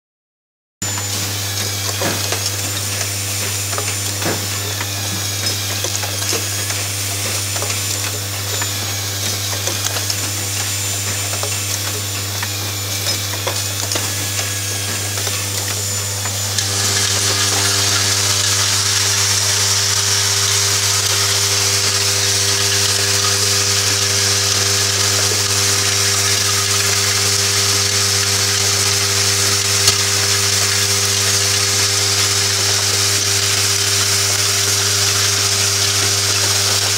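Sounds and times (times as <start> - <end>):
machine humming and clicking: 0.8 - 36.9.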